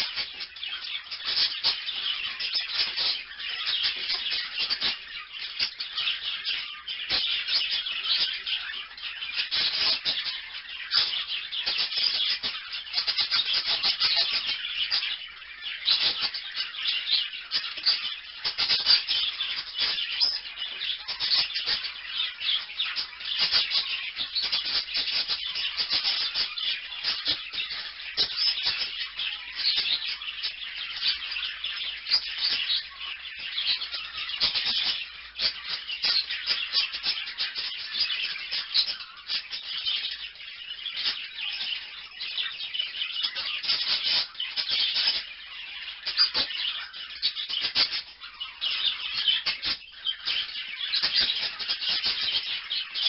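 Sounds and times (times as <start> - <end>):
parakeets chattering: 0.0 - 53.0.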